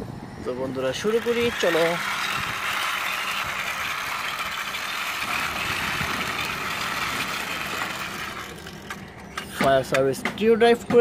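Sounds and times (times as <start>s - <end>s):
toy wheels whirring on concrete: 0.4s - 9.8s.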